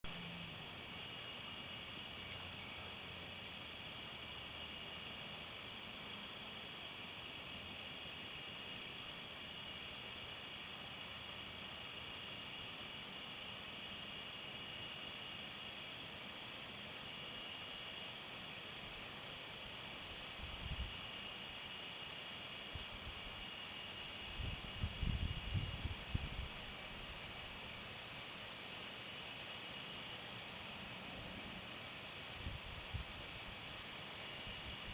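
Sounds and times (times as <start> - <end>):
night insects trilling: 0.1 - 34.9
thin steady whine: 0.1 - 34.9.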